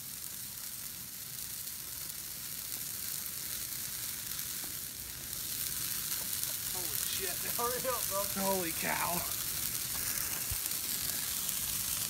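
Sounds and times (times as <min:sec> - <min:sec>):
bonfire crackling: 0:00.0 - 0:12.0.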